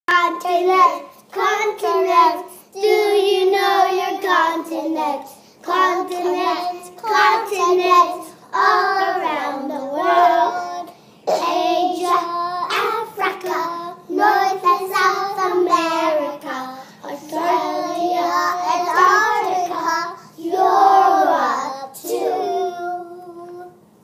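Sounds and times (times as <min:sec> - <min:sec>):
child singing: 0:00.1 - 0:23.8.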